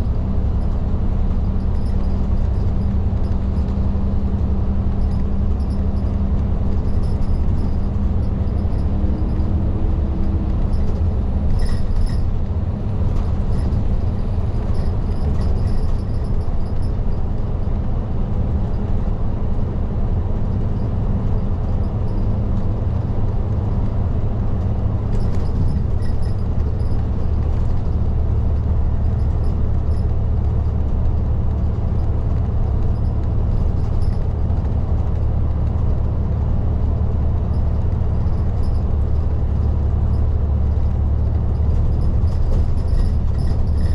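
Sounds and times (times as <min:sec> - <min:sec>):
bus engine and road drone: 0:00.0 - 0:43.9.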